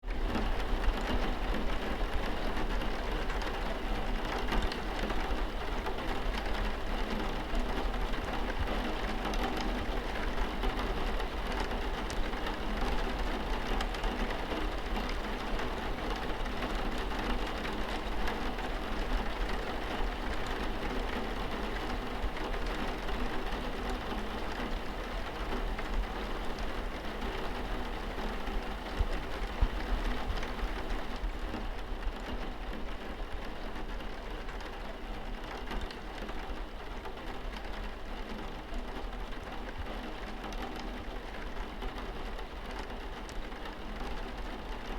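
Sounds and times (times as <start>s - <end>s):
rain pattering on window: 0.0s - 44.9s.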